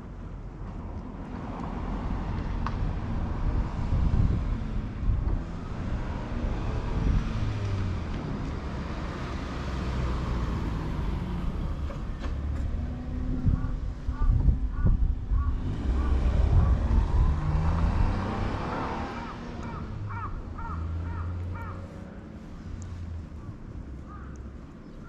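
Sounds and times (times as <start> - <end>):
vehicle engine hum with road noise: 0.0 - 25.0.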